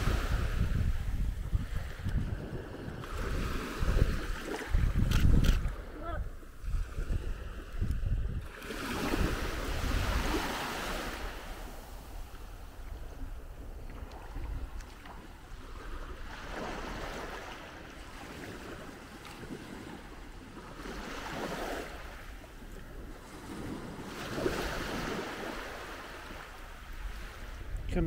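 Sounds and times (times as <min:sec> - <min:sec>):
small waves lapping on sand: 0:00.0 - 0:28.0
wind rumbling on microphone: 0:00.0 - 0:28.0.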